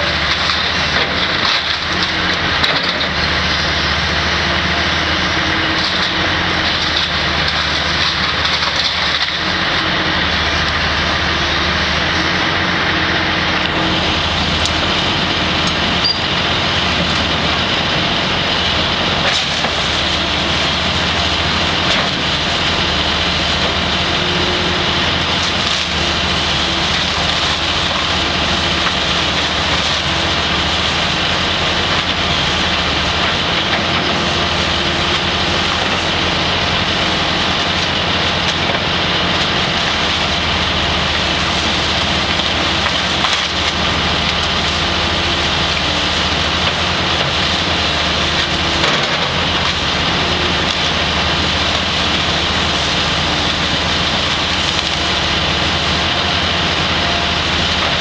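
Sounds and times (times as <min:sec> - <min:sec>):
excavator engine drone: 0:00.0 - 0:58.0.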